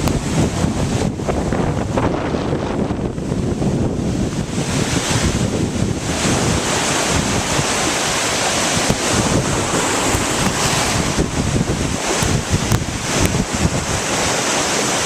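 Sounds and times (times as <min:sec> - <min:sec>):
rough lake waves: 0:00.0 - 0:15.0
strong wind buffeting microphone: 0:00.0 - 0:15.0.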